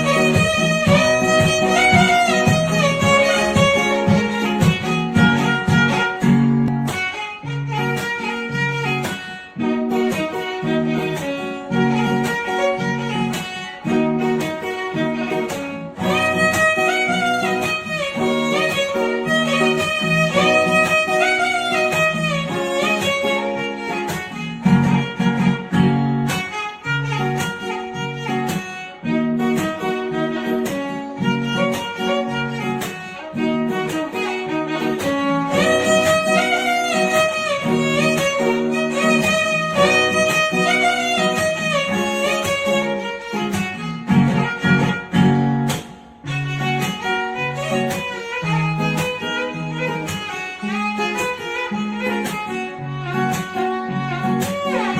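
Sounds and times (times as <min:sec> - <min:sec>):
plucked guitar: 0:00.0 - 0:54.9
violin melody: 0:00.0 - 0:54.9.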